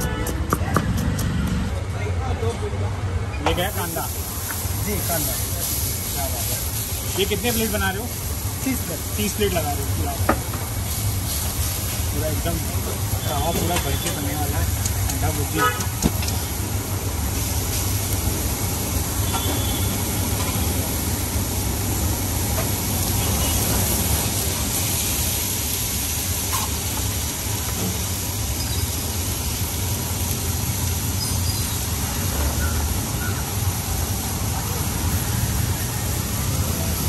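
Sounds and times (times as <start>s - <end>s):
onions sizzling on a griddle: 3.4s - 37.0s.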